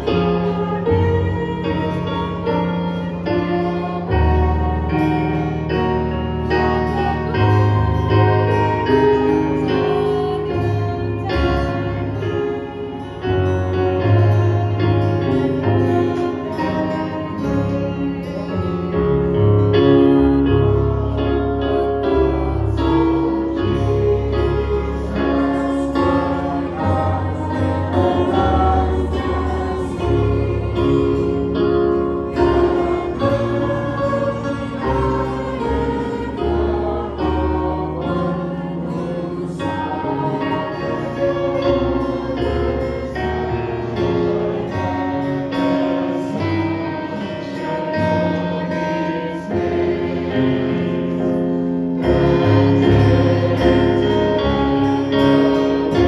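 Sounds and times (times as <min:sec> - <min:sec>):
choir singing a hymn: 0:00.0 - 0:56.0
instrumental accompaniment: 0:00.0 - 0:56.0.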